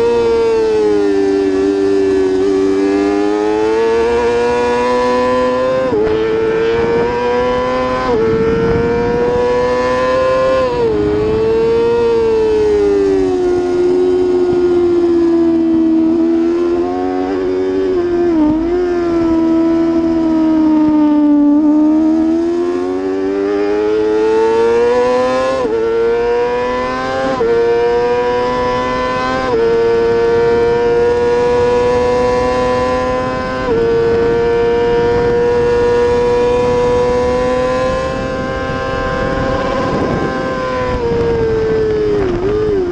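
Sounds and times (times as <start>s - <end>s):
superbike engine at high revs: 0.0s - 42.9s.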